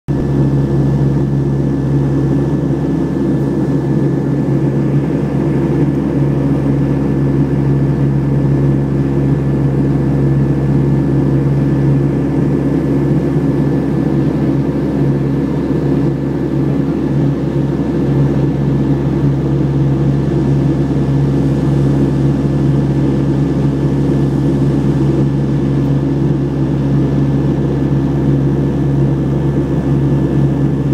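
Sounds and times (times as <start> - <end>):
propeller drone: 0.1 - 30.9.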